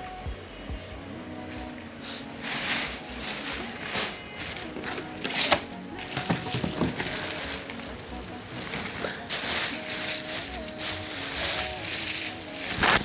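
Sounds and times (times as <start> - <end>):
background music: 0.0 - 13.0
plastic bags rustling: 1.3 - 13.0.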